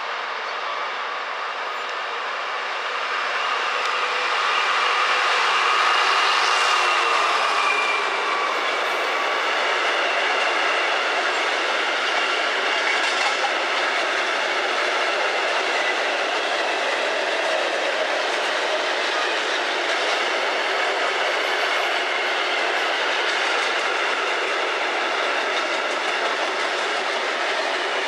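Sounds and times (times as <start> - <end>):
train wheel and rail noise: 0.0 - 28.0.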